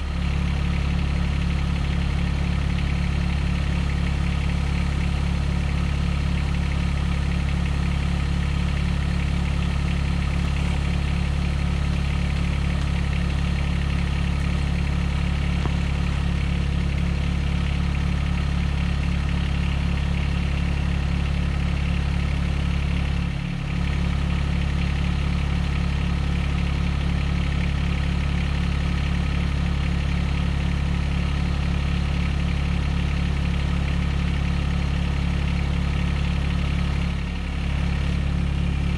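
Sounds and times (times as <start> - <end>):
small engine idling: 0.0 - 38.9.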